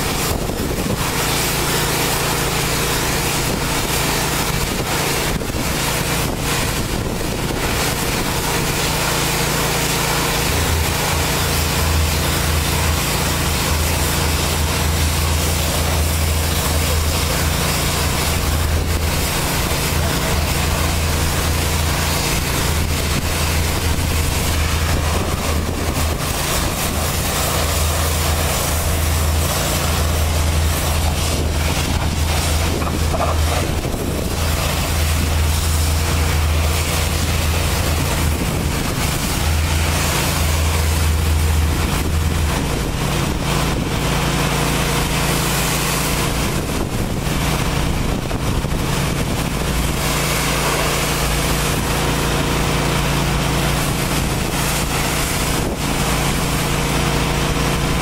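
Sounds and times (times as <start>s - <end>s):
high-pressure water spraying: 0.0s - 58.0s
low machine hum: 0.0s - 58.0s.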